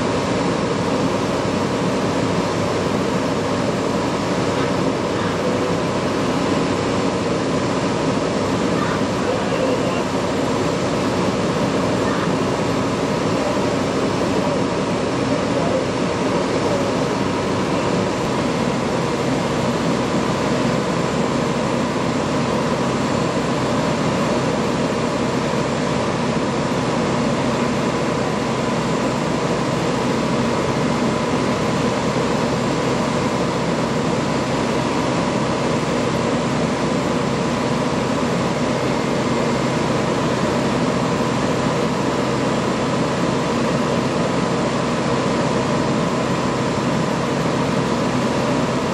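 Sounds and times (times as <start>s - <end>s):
faint steady whine: 0.0s - 48.9s
fire truck engine droning: 0.0s - 48.9s.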